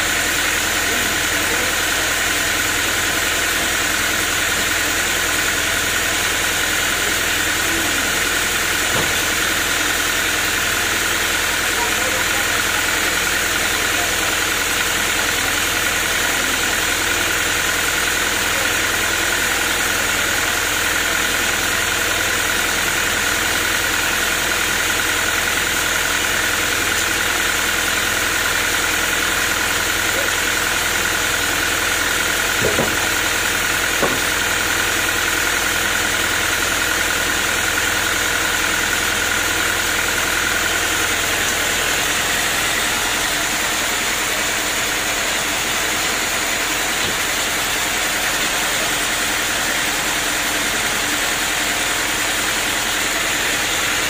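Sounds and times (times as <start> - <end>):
sawmill engine idling with whine: 0.0 - 54.0.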